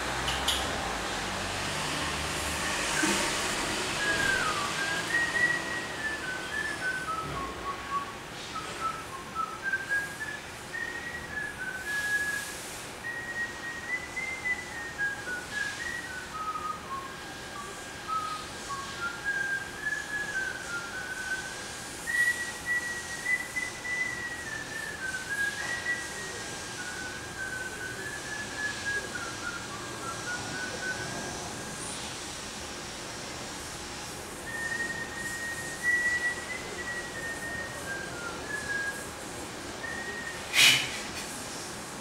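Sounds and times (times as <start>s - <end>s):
man whistling a slow tune: 2.5s - 31.8s, 34.4s - 41.1s.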